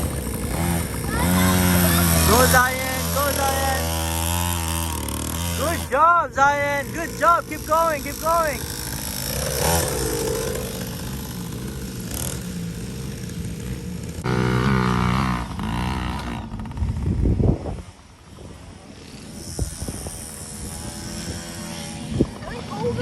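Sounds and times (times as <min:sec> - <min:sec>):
dirt bike engine buzzing: 0:00.0 - 0:23.0.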